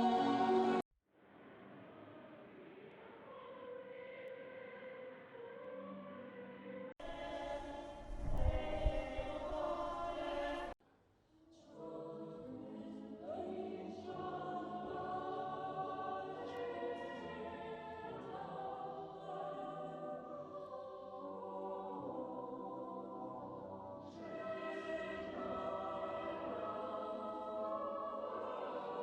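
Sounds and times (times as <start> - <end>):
choir singing held chords: 0.0 - 0.8, 2.1 - 10.8, 11.6 - 29.0.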